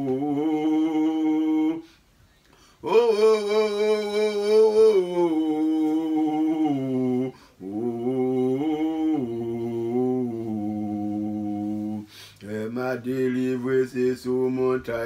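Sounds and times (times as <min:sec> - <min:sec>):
man singing wordless melody: 0:00.0 - 0:02.1, 0:02.7 - 0:15.0.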